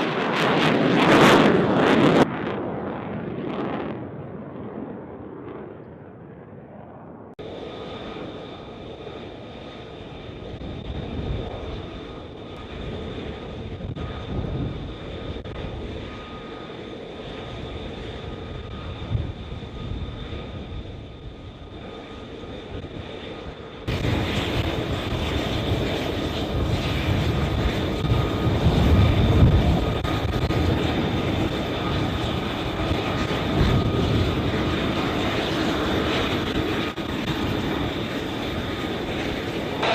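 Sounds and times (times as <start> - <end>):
jet engine whine and rumble: 0.0 - 39.9.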